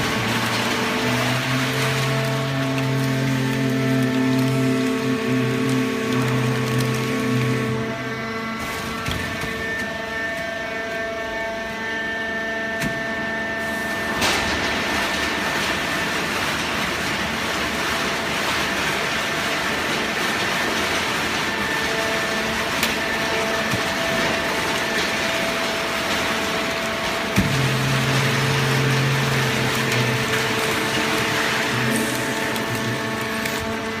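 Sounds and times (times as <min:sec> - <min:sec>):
baling press machine hum: 0:00.0 - 0:34.0.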